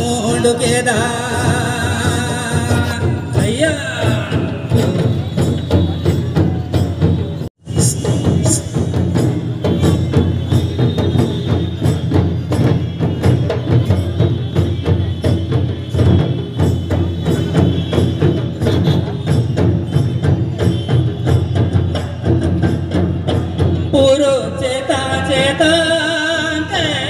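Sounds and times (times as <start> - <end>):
fast drumming on large drums: 0.0 - 25.8.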